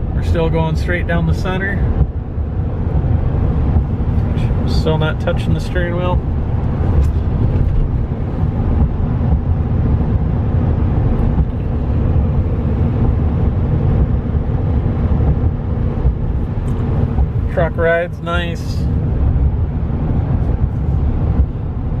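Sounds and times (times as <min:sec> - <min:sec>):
road and drivetrain rumble: 0:00.0 - 0:22.0.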